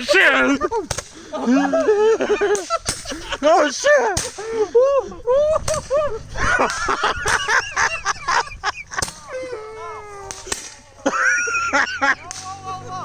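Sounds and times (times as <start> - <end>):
firecrackers popping: 0.0 - 11.4, 12.2 - 12.9
group shouting and laughing: 0.0 - 13.0.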